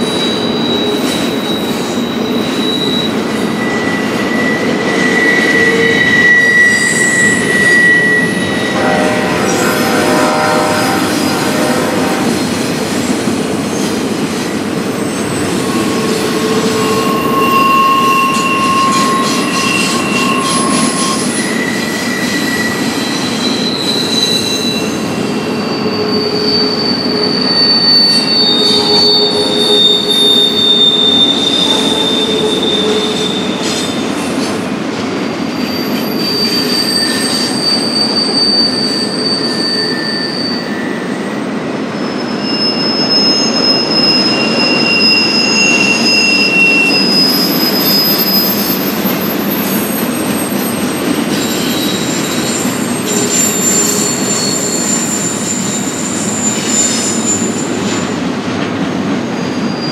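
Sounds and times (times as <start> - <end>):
freight train rumbling past: 0.0 - 59.9
train wheels squealing: 0.0 - 59.9.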